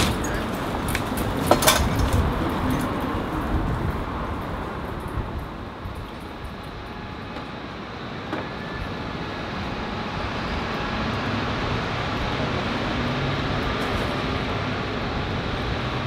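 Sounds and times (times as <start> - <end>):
steady rumbling background noise: 0.0 - 16.0.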